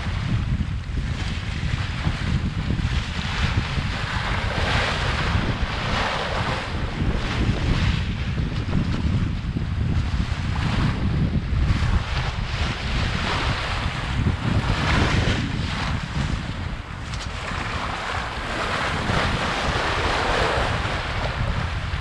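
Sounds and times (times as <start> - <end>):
bow wave rushing along hull: 0.0 - 22.0
wind buffeting microphone: 0.0 - 22.0.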